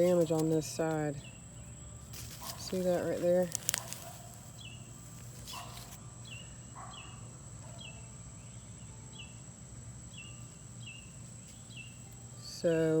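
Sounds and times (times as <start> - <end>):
outdoor ambience: 0.0 - 13.0.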